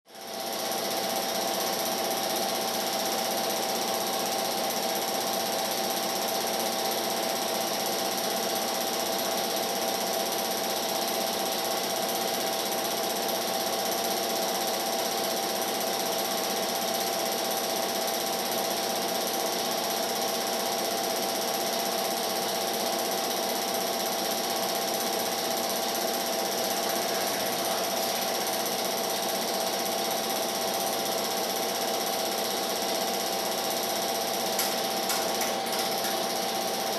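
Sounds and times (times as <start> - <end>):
film projector clattering: 0.3 - 36.9.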